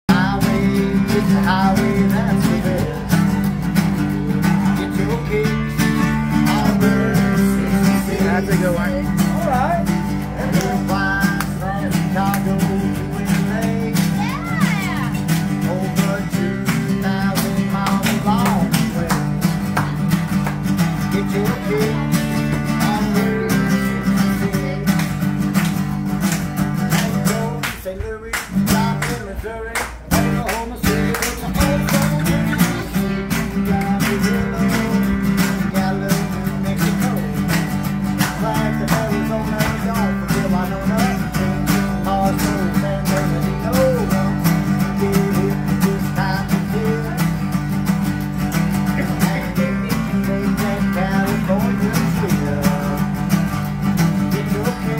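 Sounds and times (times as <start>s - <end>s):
acoustic guitars strumming: 0.1s - 54.9s.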